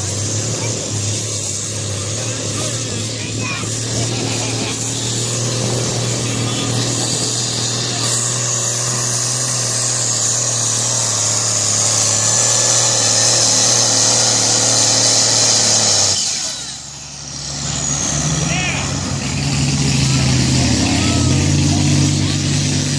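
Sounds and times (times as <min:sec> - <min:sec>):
high engine whine: 0:00.0 - 0:22.9
tractor diesel engine under load: 0:00.0 - 0:22.9.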